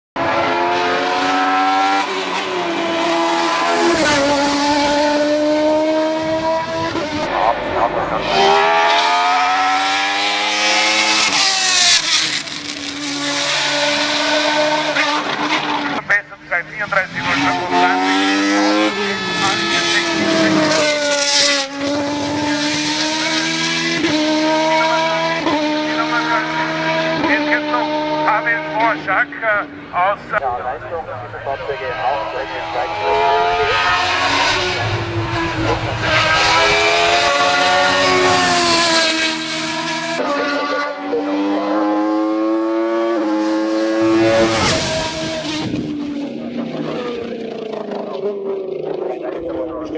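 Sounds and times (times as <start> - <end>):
racing engine revving through gears: 0.2 - 16.1, 16.8 - 29.4, 31.4 - 49.6.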